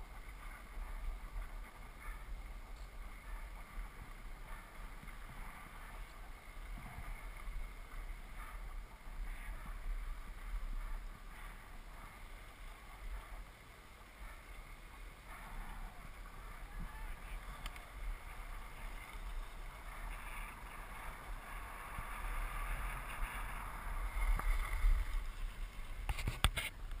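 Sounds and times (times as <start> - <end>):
sliding over packed snow: 0.0 - 27.0
wind buffeting microphone: 0.0 - 27.0.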